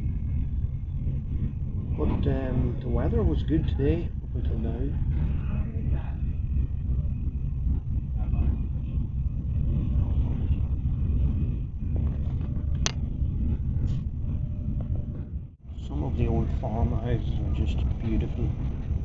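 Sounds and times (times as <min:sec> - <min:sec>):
train running low rumble: 0:00.0 - 0:19.0.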